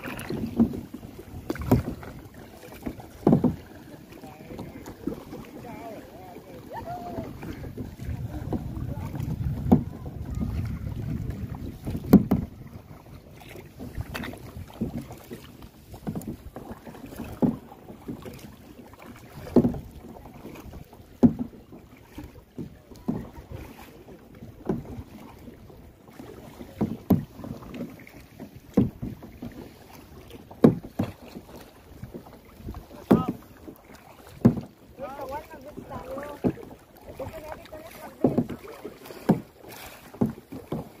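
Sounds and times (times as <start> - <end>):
kayak paddle splashes: 0.0 - 41.0.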